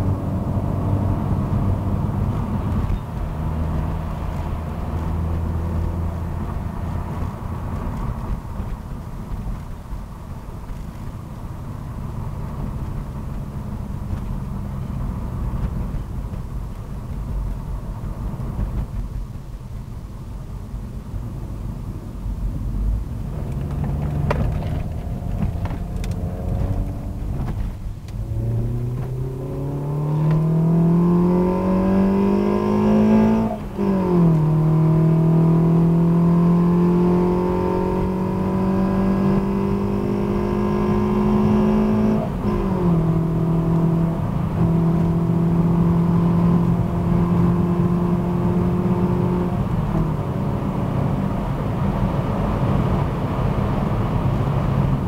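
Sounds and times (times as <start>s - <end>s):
car engine accelerating: 0.0s - 20.3s, 21.1s - 55.0s.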